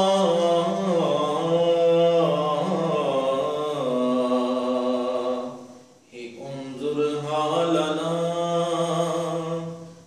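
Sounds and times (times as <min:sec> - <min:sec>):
man chanting: 0:00.0 - 0:10.0.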